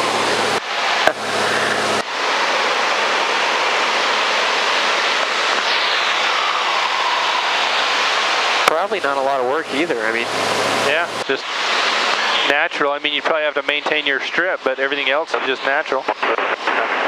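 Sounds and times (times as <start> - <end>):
aircraft cabin engine noise: 0.0 - 17.0.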